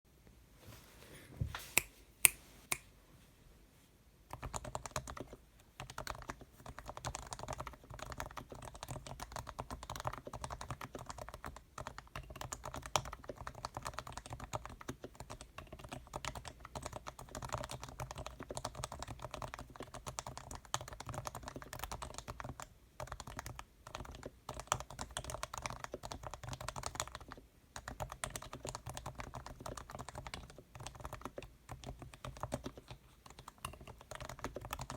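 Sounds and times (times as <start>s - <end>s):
fast keyboard typing: 4.3s - 34.9s.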